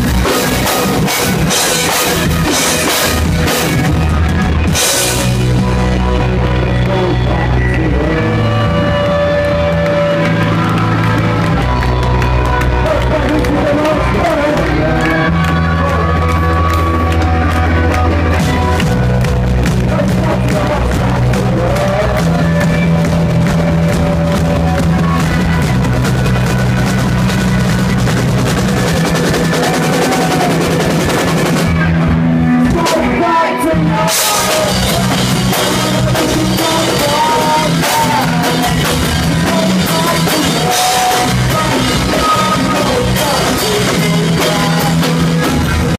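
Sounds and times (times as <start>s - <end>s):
drum kit: 0.0s - 45.9s
electric guitars: 0.0s - 45.9s
person singing: 0.0s - 45.9s.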